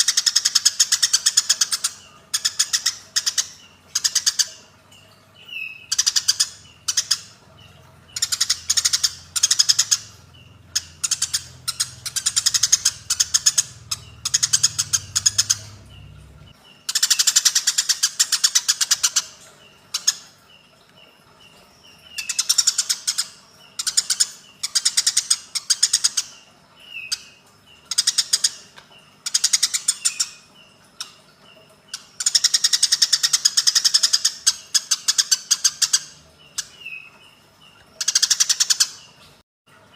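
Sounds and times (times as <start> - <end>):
sparrows harsh chattering: 0.0 - 39.3.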